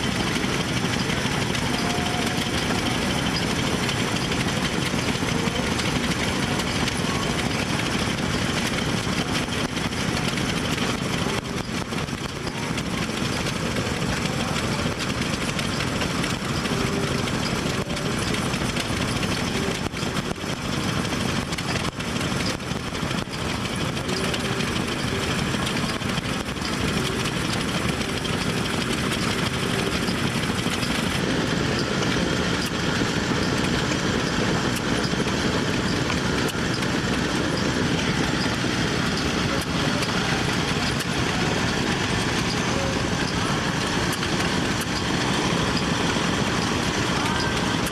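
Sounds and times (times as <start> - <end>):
old engines running: 0.0 - 47.9.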